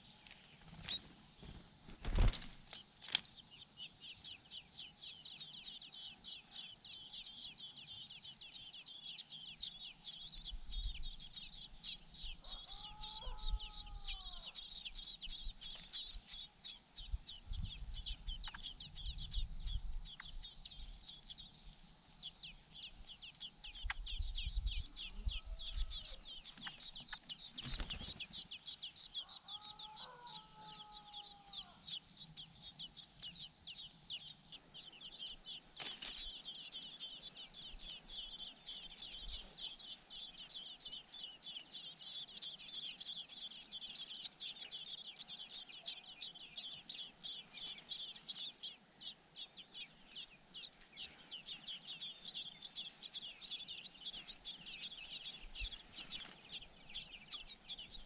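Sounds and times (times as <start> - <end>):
nestlings begging calls: 0.2 - 58.0.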